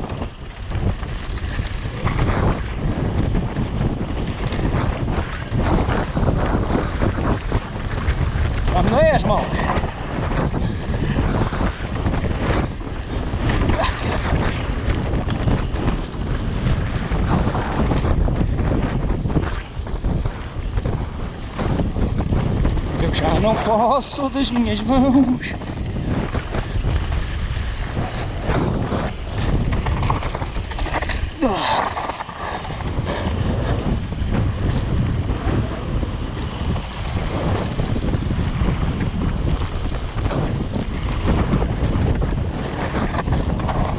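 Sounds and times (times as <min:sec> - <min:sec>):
bike knocking and rattling: 0:00.0 - 0:43.9
tyres rumbling on dirt and stones: 0:00.0 - 0:43.9
wind buffeting microphone: 0:00.0 - 0:43.9.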